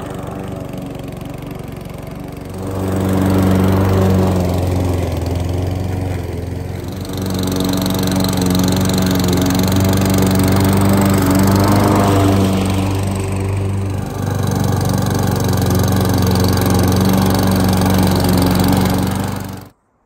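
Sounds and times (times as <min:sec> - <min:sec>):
lawn mower engine running: 0:00.0 - 0:19.7.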